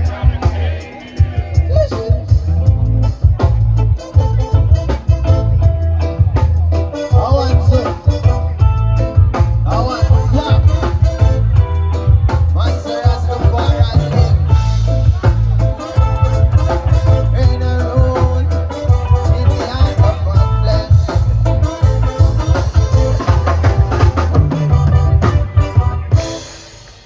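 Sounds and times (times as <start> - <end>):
heavy pulsing bass line: 0.0 - 27.0
live reggae band playing: 0.0 - 27.0.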